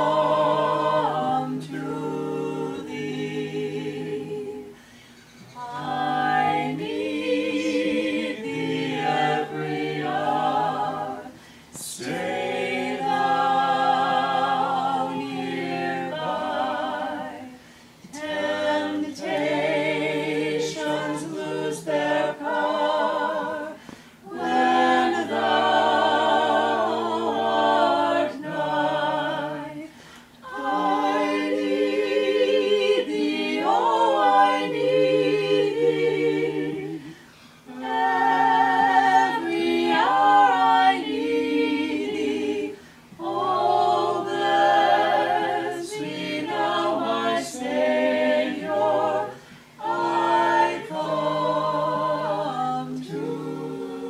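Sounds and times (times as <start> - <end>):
group singing a cappella: 0.0 - 54.0.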